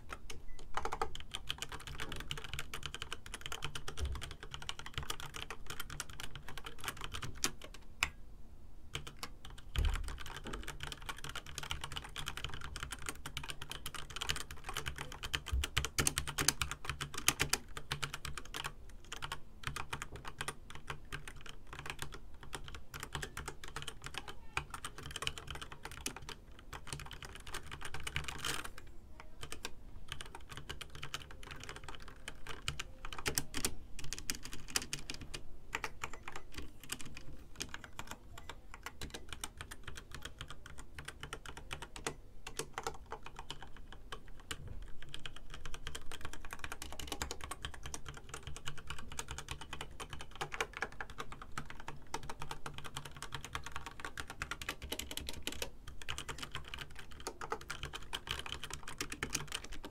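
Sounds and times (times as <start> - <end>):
mechanical keyboard typing: 0.0 - 8.2, 8.9 - 59.9.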